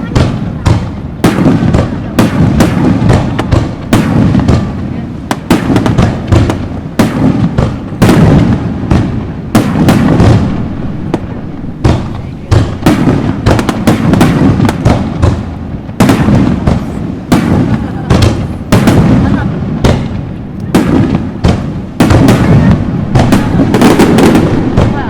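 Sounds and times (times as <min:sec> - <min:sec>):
booming rumble and echo: 0:00.0 - 0:25.0
fireworks bangs: 0:00.0 - 0:25.0.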